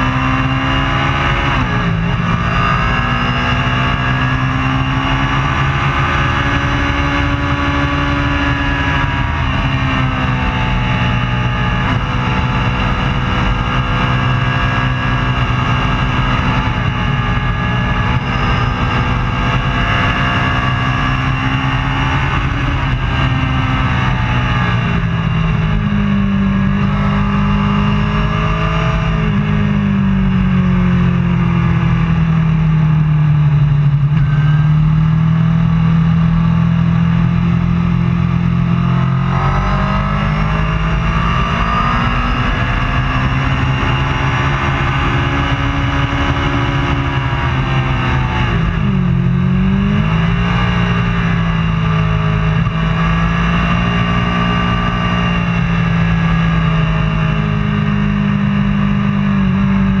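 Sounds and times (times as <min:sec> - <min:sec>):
superbike engine revving: 0:00.0 - 1:00.0.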